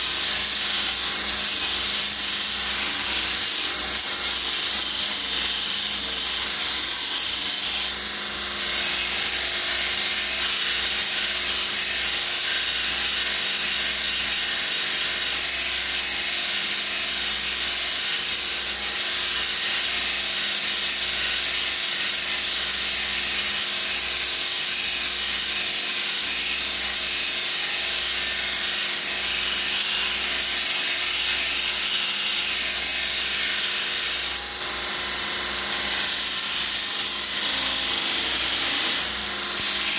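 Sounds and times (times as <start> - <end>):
belt grinder grinding steel: 0.0 - 39.9.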